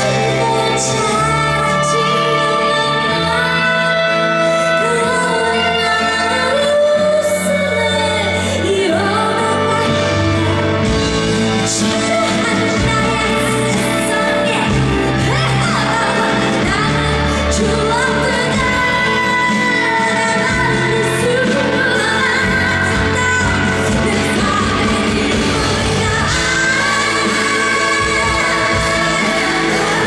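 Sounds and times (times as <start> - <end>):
band accompaniment: 0.0 - 30.0
woman singing pop song: 0.0 - 30.0.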